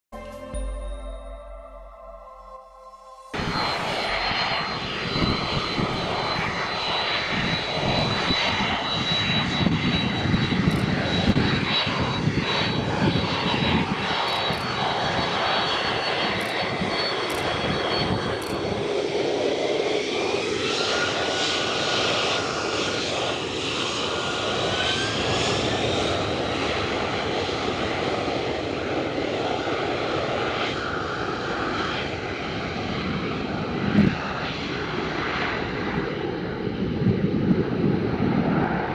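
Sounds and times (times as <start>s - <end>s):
jet engines whining: 2.4s - 38.9s.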